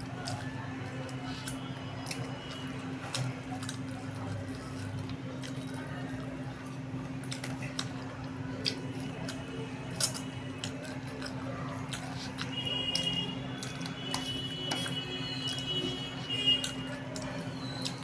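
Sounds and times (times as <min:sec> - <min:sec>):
wet squishing of eating: 0:00.0 - 0:18.0.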